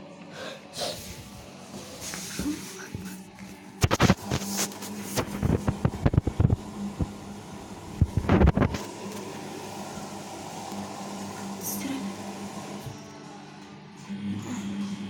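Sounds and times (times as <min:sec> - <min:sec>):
washing machine motor hum: 0:01.0 - 0:15.0.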